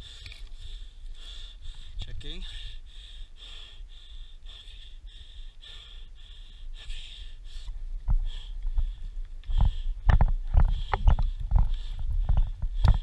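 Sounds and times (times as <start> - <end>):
rhythmic breathing: 0.0 - 13.0.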